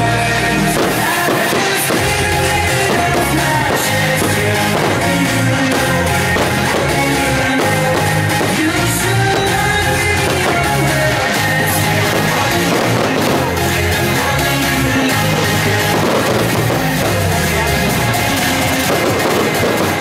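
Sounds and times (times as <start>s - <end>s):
rock band with singing: 0.0s - 20.0s.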